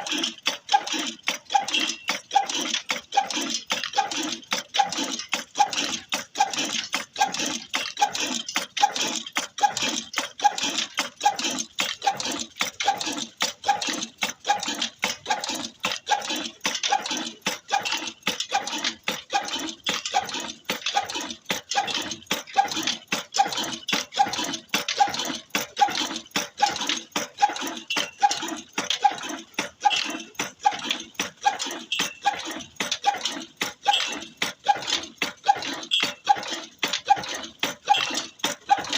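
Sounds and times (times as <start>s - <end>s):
fast clicking: 0.0s - 38.9s
old engine running with regular beat: 0.0s - 38.9s.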